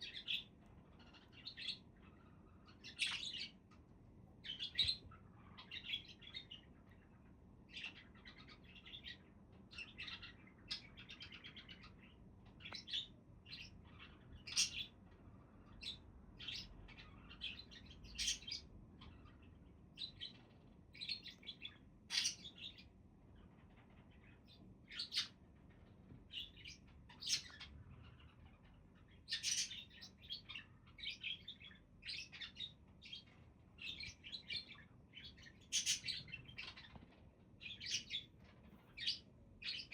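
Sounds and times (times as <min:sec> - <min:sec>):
budgerigars chirping: 0:00.0 - 0:03.8, 0:04.4 - 0:22.9, 0:23.8 - 0:25.4, 0:26.3 - 0:37.0, 0:37.6 - 0:39.9.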